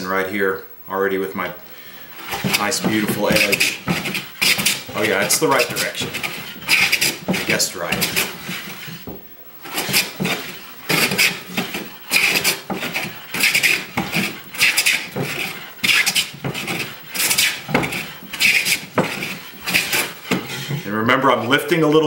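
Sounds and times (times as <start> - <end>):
hand plane shaving wood: 2.1 - 20.8.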